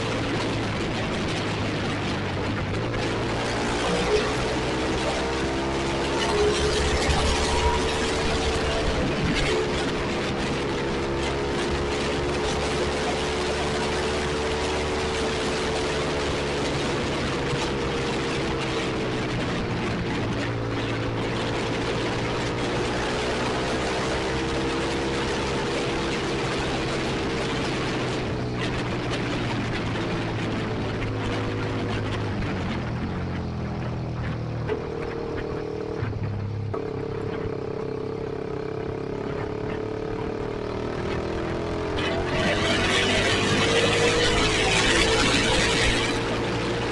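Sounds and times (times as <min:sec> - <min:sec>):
single-cylinder motorcycle engine: 0:00.0 - 0:46.9
wind and road noise: 0:00.0 - 0:46.9.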